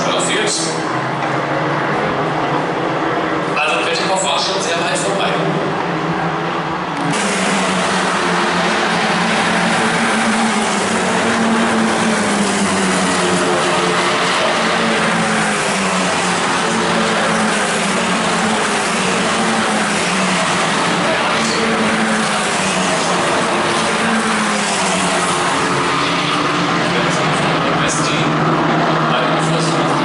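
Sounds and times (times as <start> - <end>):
racing car engines droning: 0.0 - 30.0.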